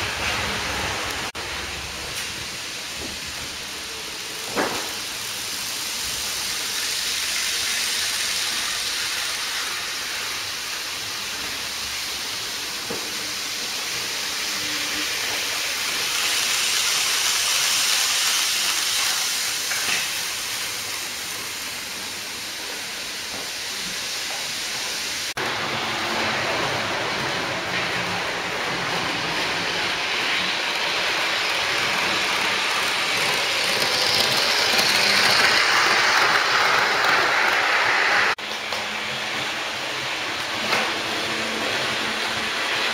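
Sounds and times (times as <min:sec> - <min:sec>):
model trains whirring on track: 0:00.0 - 0:42.9.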